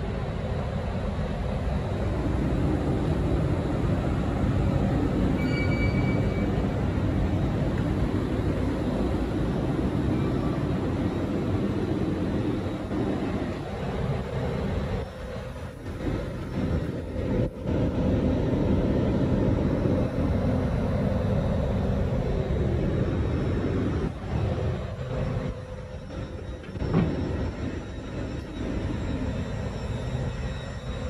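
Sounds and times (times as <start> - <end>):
electric train rumbling: 0.0 - 31.0
faint constant hum: 0.0 - 31.0.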